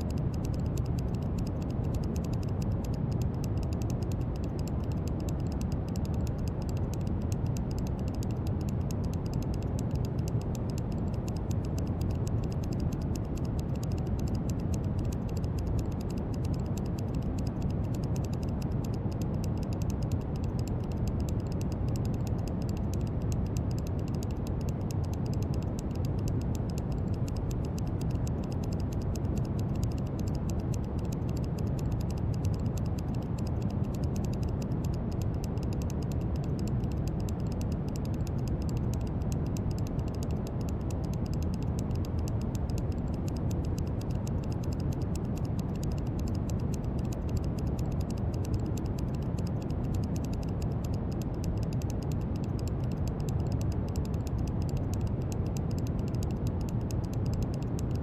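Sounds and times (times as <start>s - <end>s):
faint fast crackle: 0.0s - 58.0s.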